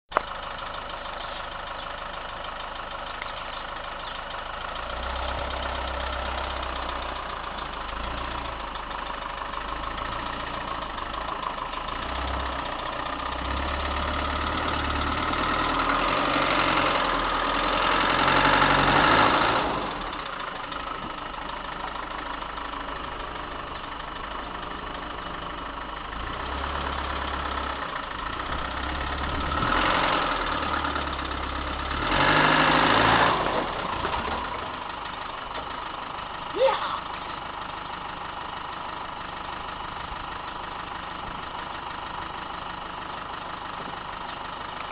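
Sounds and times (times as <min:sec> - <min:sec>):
engine running at low revs: 0:01.0 - 0:44.9.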